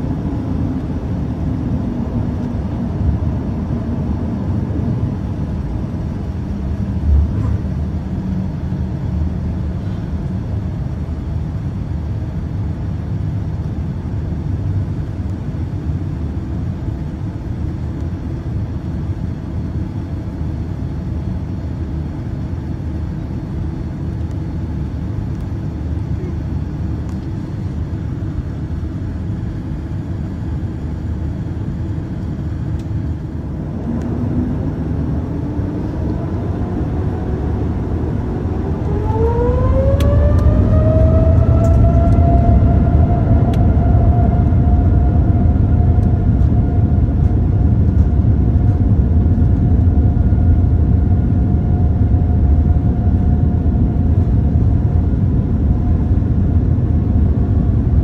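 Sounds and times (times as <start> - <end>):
jet engine rumble: 0.0 - 58.0
jet engine whine: 0.0 - 58.0.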